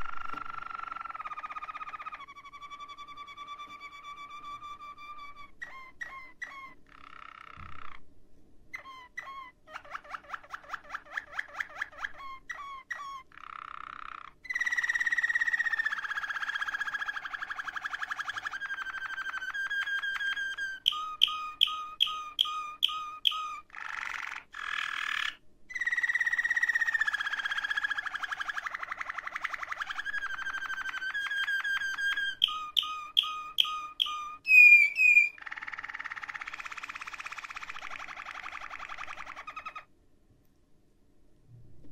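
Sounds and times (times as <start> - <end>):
canary singing trills: 0.0 - 8.0, 8.7 - 39.9
loud bird chirps: 0.0 - 8.0, 8.7 - 39.9.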